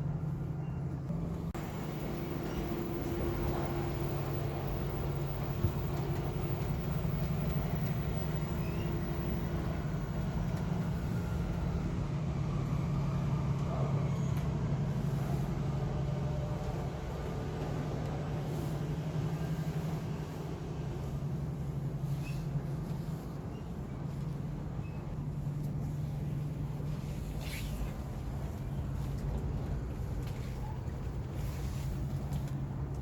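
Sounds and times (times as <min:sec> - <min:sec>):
train cabin low hum: 0:00.0 - 0:33.0.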